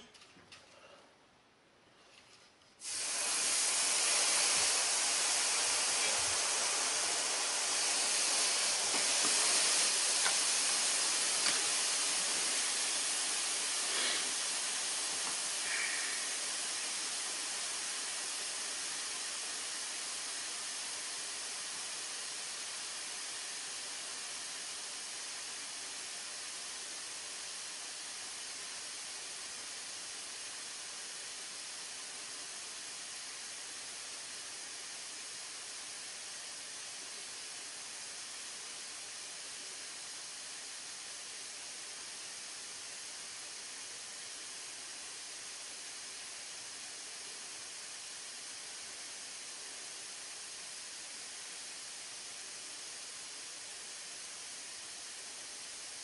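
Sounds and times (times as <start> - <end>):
steady bright hiss: 2.3 - 56.0.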